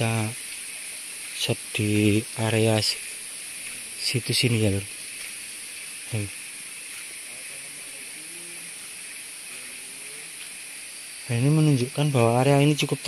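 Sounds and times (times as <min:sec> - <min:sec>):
insects hissing: 0:00.0 - 0:13.0.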